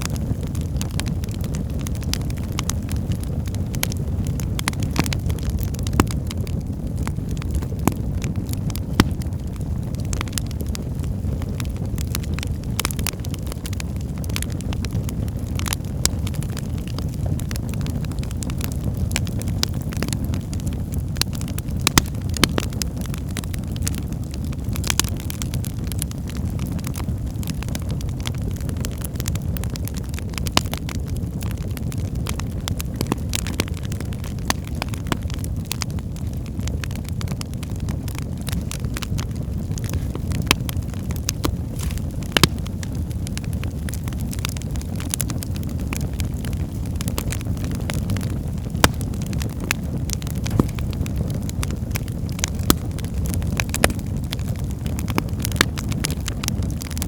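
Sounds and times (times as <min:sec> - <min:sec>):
logs crackling and popping: 0:00.0 - 0:57.0
low roar of flames: 0:00.0 - 0:57.0.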